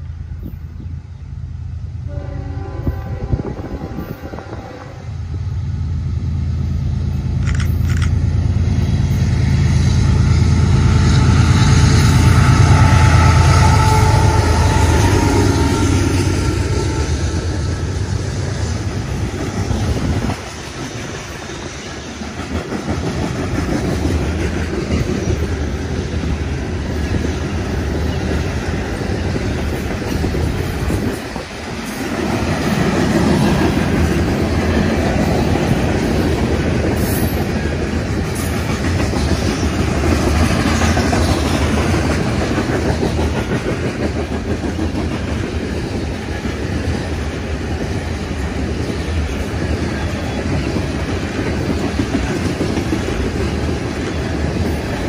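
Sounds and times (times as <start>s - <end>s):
freight train rolling past: 0.0s - 55.0s
steel wheels on rails: 6.6s - 55.0s.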